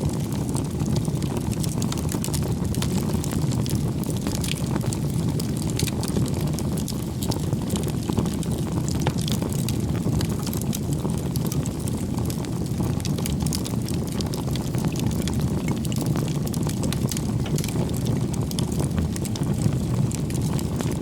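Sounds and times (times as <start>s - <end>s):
bonfire flames rumbling: 0.0s - 21.0s
wood crackling and snapping: 0.2s - 21.0s.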